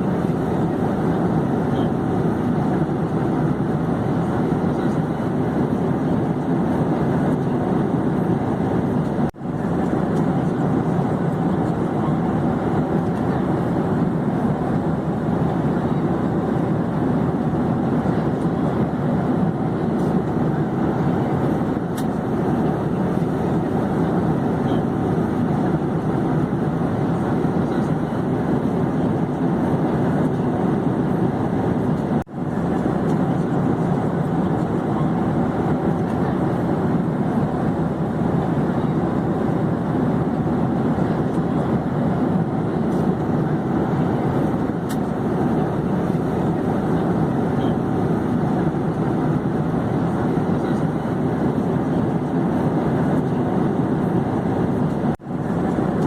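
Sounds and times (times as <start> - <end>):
airplane engine and airflow rush: 0.0 - 56.0.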